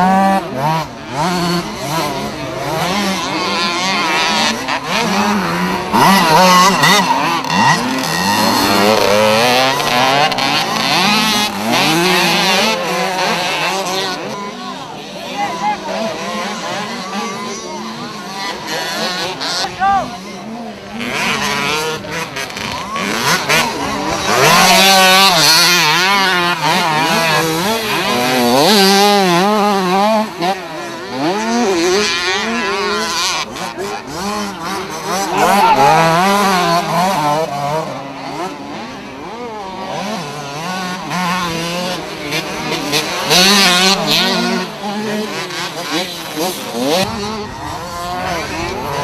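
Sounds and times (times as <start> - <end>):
two-stroke motorcycles racing: 0.0 - 49.0.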